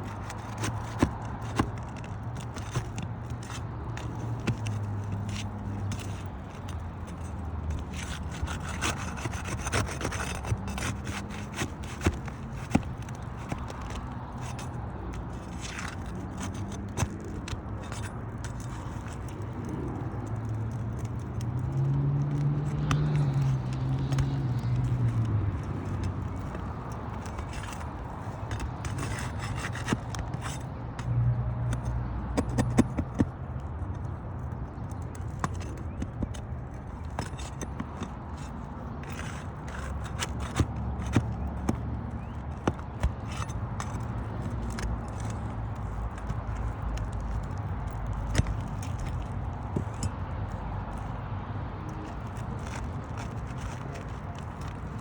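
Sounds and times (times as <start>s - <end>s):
hand tools scraping shingles: 0.0s - 55.0s.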